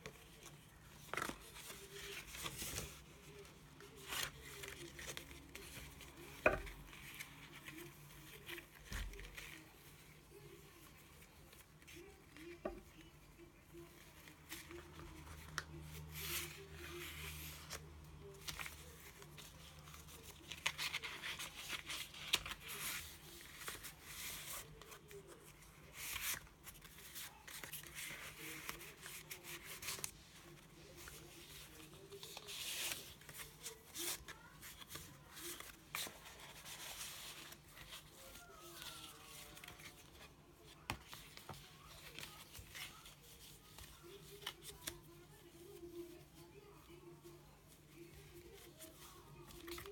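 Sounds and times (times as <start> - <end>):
stiff paper rustling and crinkling: 0.0 - 49.9.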